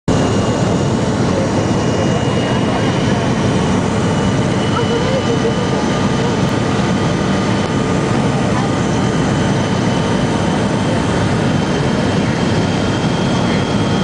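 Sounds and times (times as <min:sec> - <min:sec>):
high steady whine: 0:00.1 - 0:14.0
jet engine cabin roar: 0:00.1 - 0:14.0.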